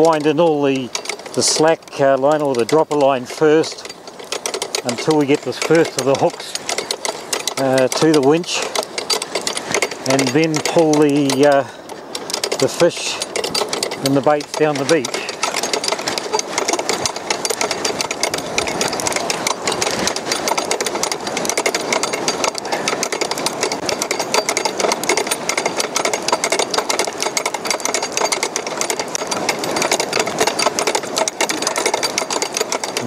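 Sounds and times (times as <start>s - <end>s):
fast mechanical clatter: 0.0s - 33.0s
winch motor running: 0.0s - 33.0s.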